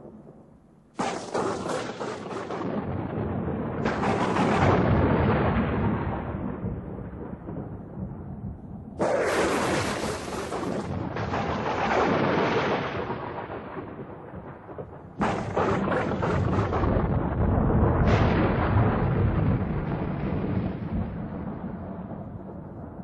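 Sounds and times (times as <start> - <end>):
thunder clap and rumble: 0.0 - 23.0.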